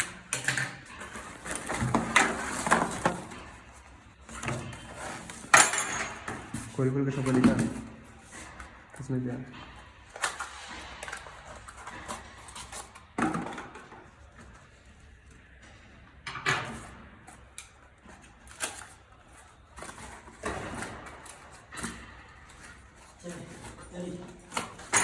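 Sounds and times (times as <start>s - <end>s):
objects knocking and rustling: 0.0s - 25.0s.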